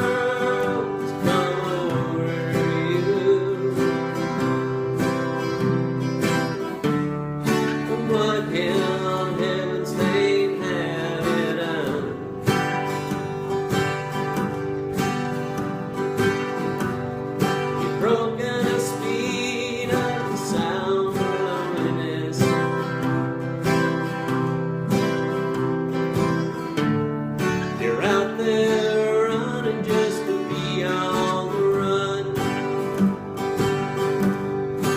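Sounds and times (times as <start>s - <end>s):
country acoustic guitar music: 0.0s - 34.9s.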